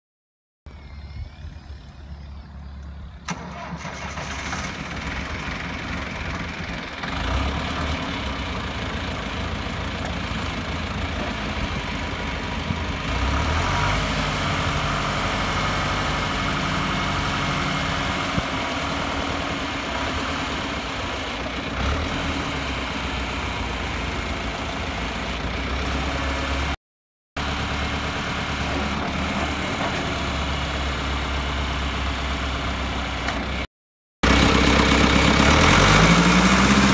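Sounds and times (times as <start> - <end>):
tractor diesel engine running: 0.7 - 26.8, 27.4 - 36.9.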